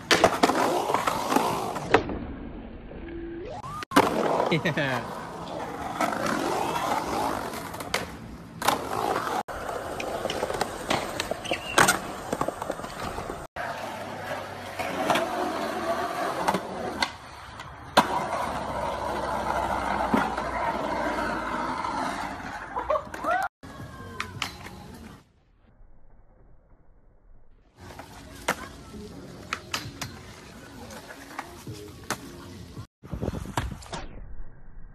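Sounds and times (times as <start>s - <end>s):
skateboard wheels rolling on concrete: 0.0s - 25.4s, 27.7s - 34.1s.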